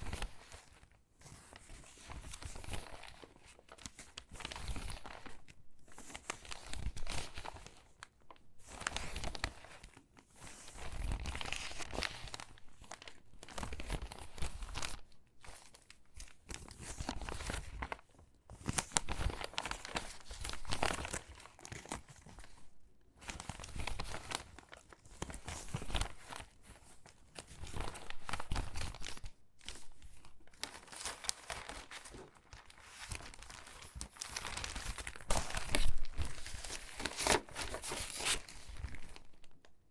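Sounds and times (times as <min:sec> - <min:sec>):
magazine pages rustling: 0:00.0 - 0:05.4, 0:06.0 - 0:15.0, 0:15.6 - 0:18.0, 0:18.6 - 0:22.6, 0:23.2 - 0:39.7.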